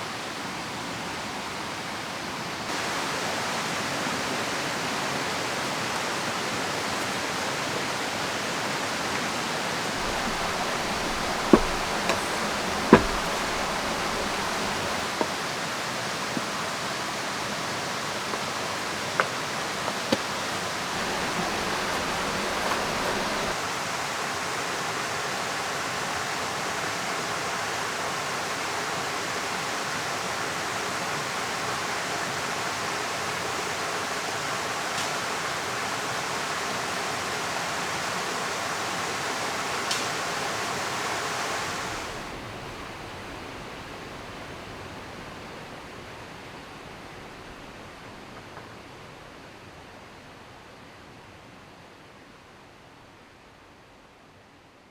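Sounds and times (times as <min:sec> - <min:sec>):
river water rushing: 0:00.1 - 0:47.8.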